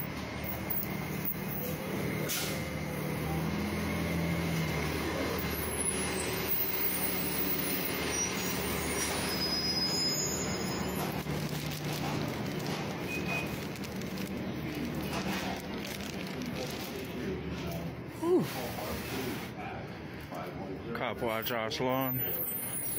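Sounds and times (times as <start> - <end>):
bus engine droning: 0.0 - 19.2
street traffic noise: 0.0 - 22.9.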